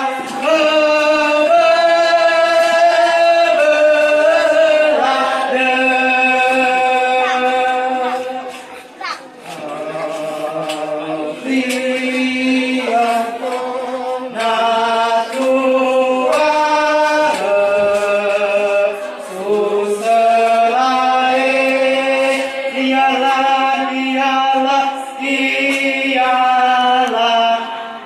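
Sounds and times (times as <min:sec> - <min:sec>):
man chanting into a microphone: 0:00.0 - 0:08.7, 0:09.5 - 0:28.0.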